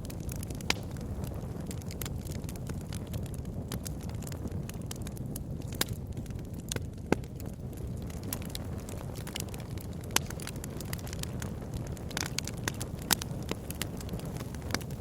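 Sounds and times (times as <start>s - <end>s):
bonfire rumble: 0.0s - 15.0s
fire crackling and popping: 0.0s - 15.0s.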